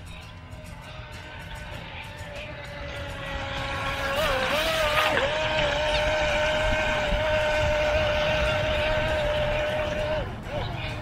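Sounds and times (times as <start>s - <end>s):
electric motor whining: 1.1s - 11.0s.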